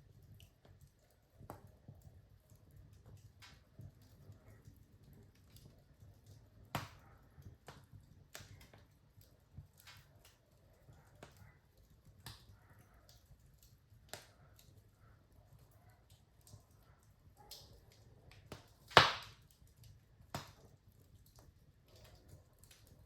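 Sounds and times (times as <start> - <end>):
fire crackling and popping: 0.0 - 23.0
low fire rumble: 0.0 - 23.0.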